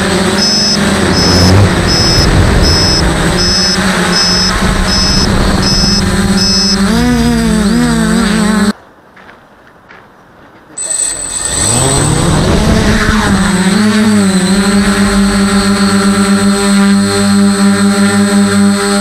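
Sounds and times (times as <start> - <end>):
drone motors whining and buzzing: 0.0 - 8.8, 10.8 - 19.0.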